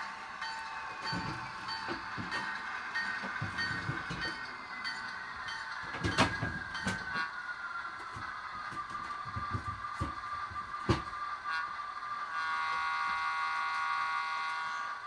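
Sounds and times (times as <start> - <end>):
model train electric whine: 0.0 - 15.0
wheels clicking on track: 0.0 - 15.0.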